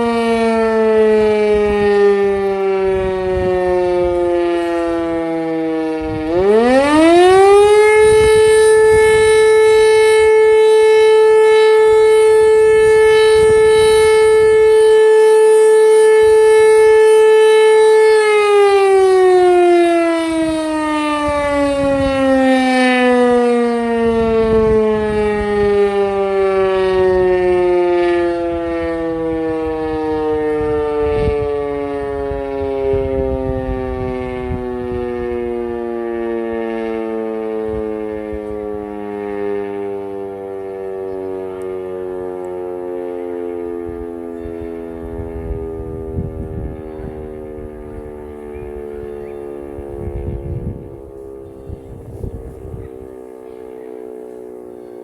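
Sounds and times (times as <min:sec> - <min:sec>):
civil defence siren winding: 0:00.0 - 0:55.0.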